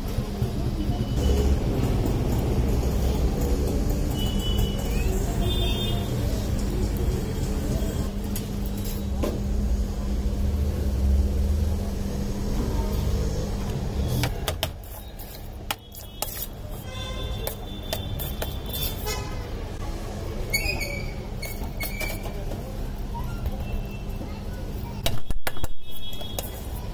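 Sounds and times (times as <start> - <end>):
street traffic rumble: 0.0 - 26.9.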